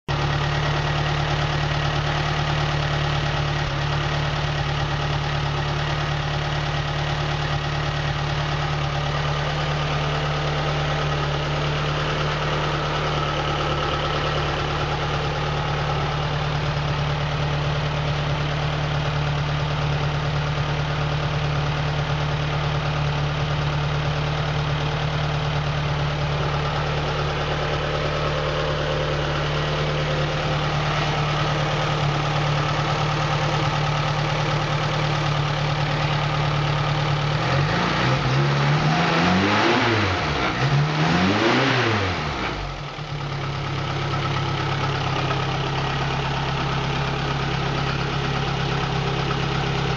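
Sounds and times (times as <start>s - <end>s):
petrol engine idling: 0.1s - 37.4s, 42.6s - 49.9s.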